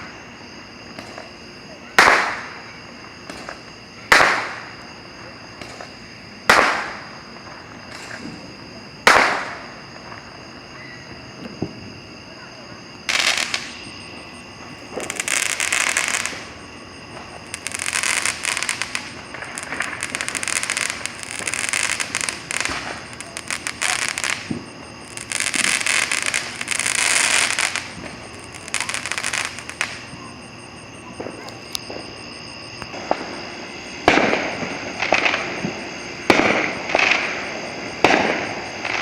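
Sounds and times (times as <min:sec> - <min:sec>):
fireworks crackling: 0:00.0 - 0:10.6, 0:11.4 - 0:39.0.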